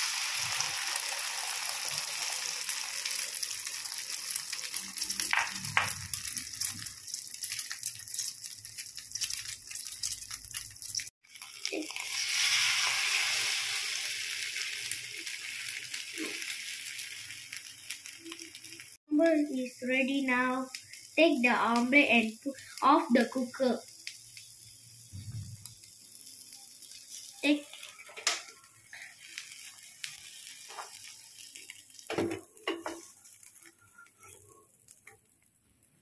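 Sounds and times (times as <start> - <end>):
omelette sizzling in oil: 0.0 - 36.0.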